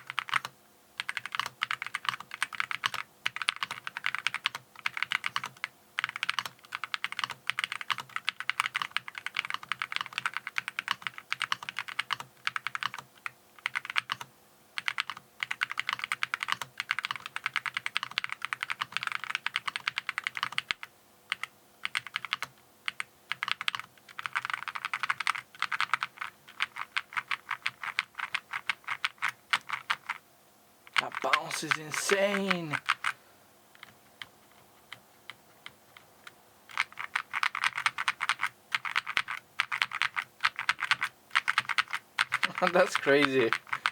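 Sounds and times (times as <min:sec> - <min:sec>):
fast mechanical keyboard typing: 0:00.0 - 0:30.2, 0:33.8 - 0:43.9.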